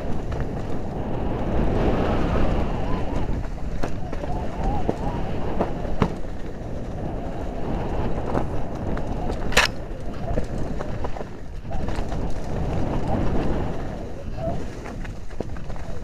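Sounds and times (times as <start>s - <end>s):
bike wheels rattling on dirt trail: 0.0s - 16.0s.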